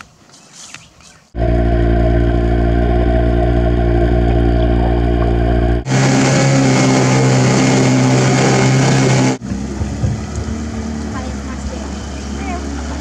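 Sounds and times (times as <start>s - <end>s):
churning wake water: 1.4s - 13.0s
outboard motor droning: 1.4s - 13.0s.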